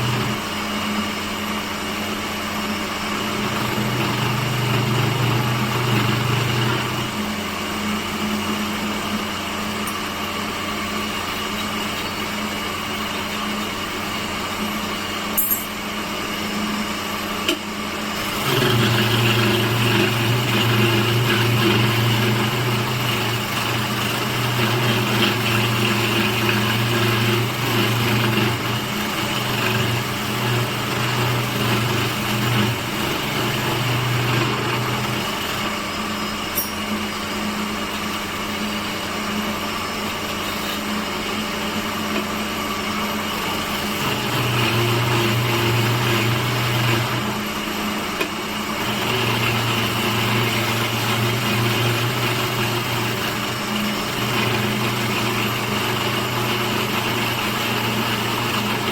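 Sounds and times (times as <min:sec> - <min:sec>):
electric woodworking machine humming: 0:00.0 - 0:58.9.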